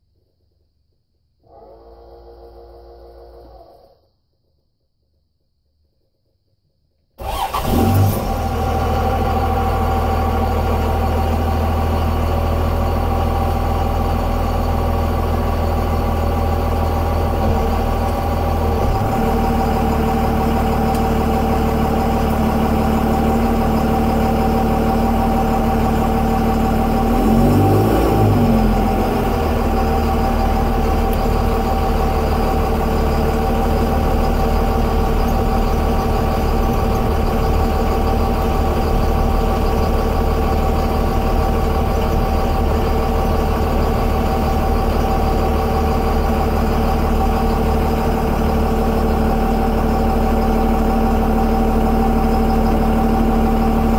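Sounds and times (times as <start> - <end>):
diesel engine idling: 7.2 - 53.9.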